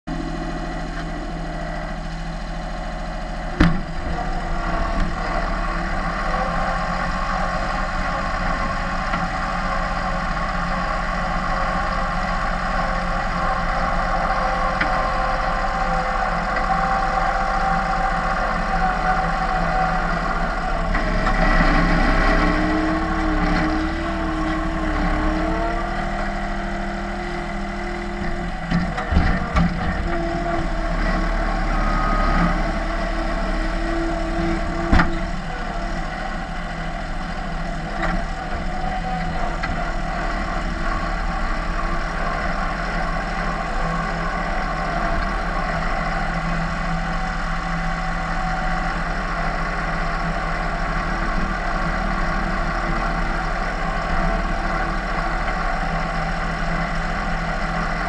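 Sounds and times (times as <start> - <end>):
diesel engine under load: 0.1 - 58.0.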